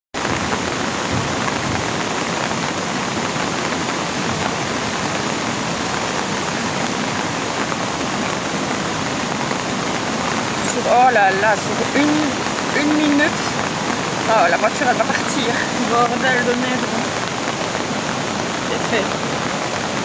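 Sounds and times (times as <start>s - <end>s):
floodwater rushing: 0.1s - 20.0s
heavy rain: 0.1s - 20.0s.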